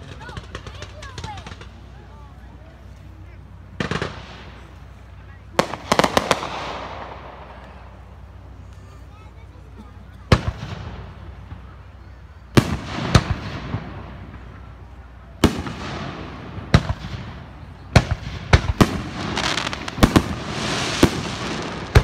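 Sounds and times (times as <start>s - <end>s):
fireworks bangs: 0.0s - 2.2s, 3.6s - 8.4s, 10.2s - 22.0s.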